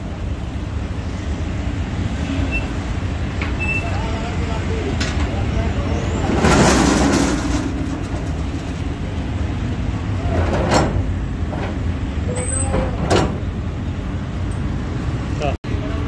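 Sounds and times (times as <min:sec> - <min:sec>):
motor traffic rumble: 0:00.0 - 0:16.0.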